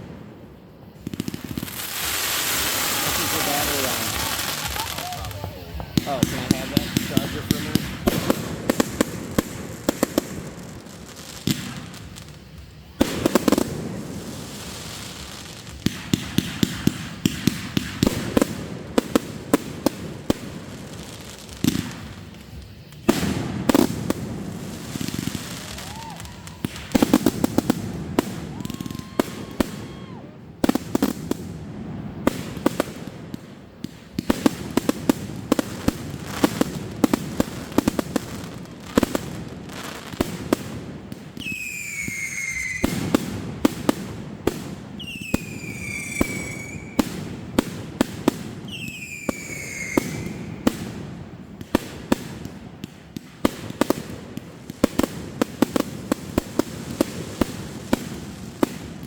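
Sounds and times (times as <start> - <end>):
fireworks bangs and crackling: 0.0 - 59.0
whistling fireworks: 0.0 - 59.0.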